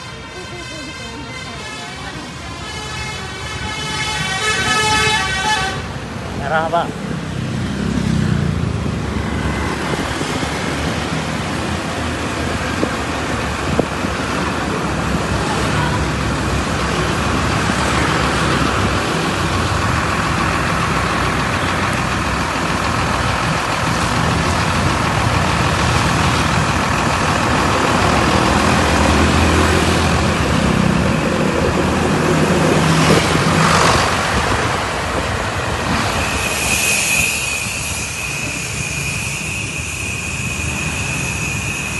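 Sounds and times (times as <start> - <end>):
diesel engine rumble: 0.0 - 41.9.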